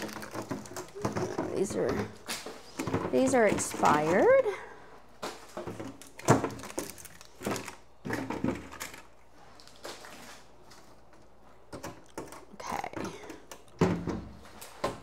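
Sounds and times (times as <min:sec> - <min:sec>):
food containers clattering: 0:00.0 - 0:04.6, 0:05.2 - 0:15.0.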